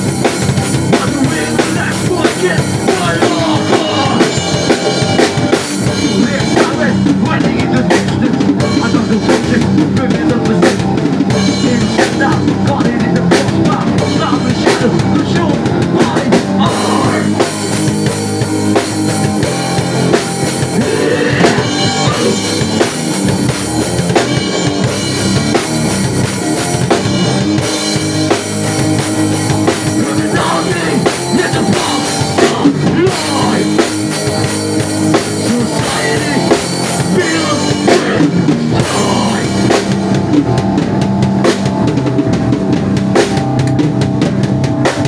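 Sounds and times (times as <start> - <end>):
drum kit with cymbals: 0.0 - 45.0
electric guitar: 0.0 - 45.0.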